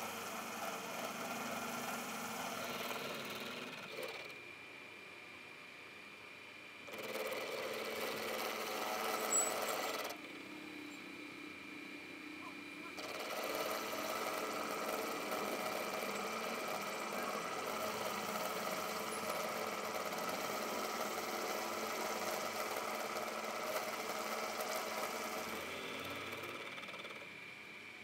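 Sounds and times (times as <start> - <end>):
milling machine cutting metal: 0.0 - 4.4, 6.9 - 27.6.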